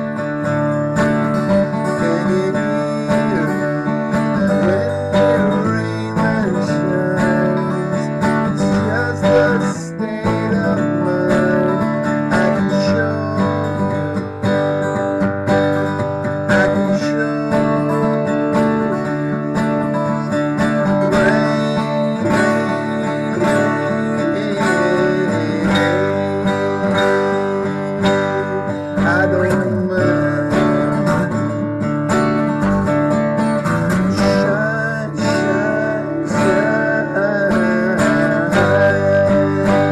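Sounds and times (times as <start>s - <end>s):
acoustic guitar strumming: 0.0s - 39.9s
man singing: 0.9s - 14.9s, 15.8s - 31.9s, 33.2s - 39.9s.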